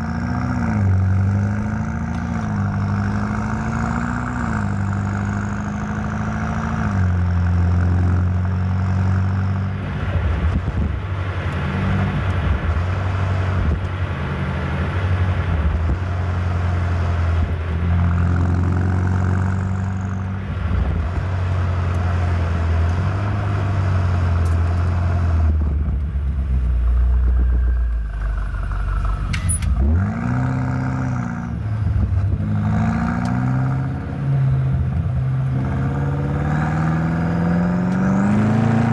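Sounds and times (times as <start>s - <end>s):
car engine changing gears: 0.0s - 38.9s.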